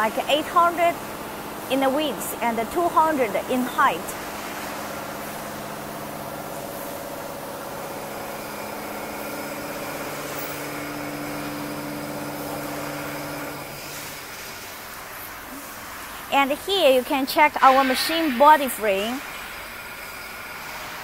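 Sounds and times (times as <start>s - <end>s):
machinery hum with low tones: 0.0s - 21.0s.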